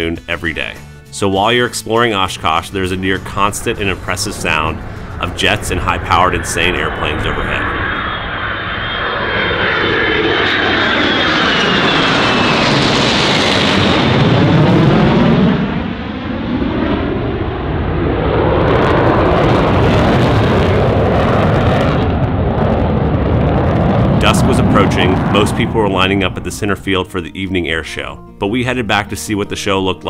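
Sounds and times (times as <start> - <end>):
jet aircraft flying overhead: 2.0 - 28.5.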